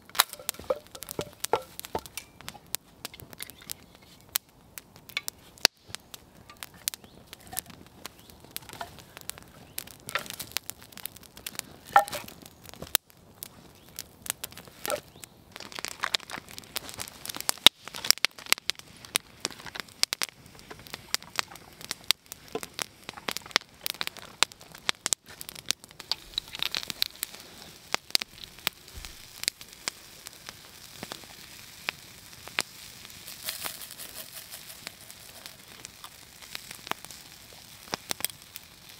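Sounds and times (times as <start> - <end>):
sharp pops and snaps: 0.0 - 38.9
wood fire crackling: 0.0 - 38.9.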